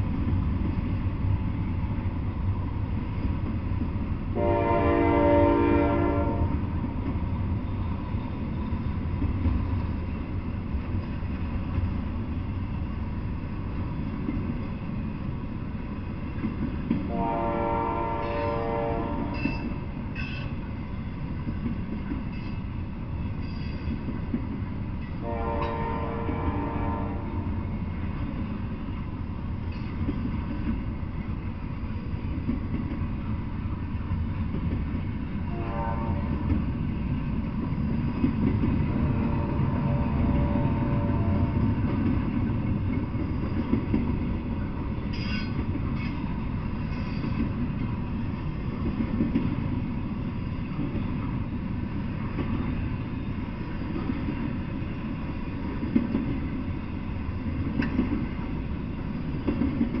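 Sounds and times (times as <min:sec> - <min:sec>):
freight train wheels rumbling: 0:00.0 - 1:00.0.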